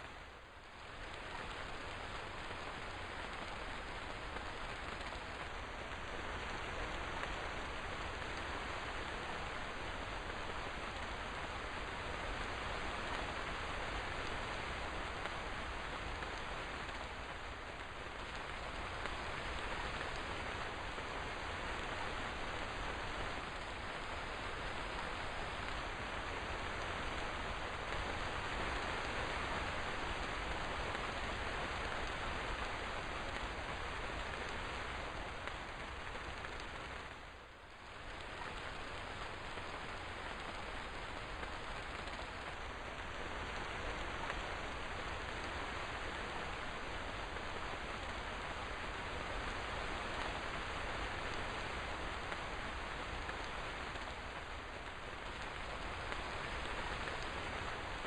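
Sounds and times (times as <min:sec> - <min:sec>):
rain on surfaces: 0:00.0 - 0:58.0.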